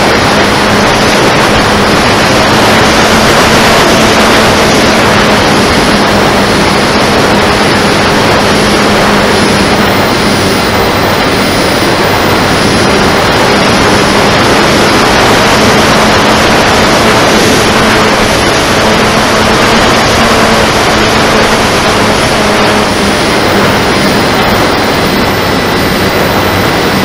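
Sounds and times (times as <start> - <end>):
electric motor humming: 0.0 - 27.0
rush of air over microphone: 0.0 - 27.0.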